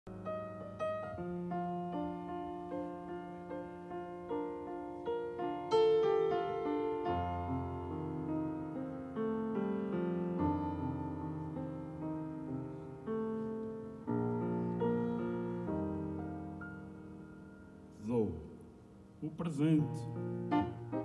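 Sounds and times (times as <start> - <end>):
grand piano playing: 0.1 - 21.0.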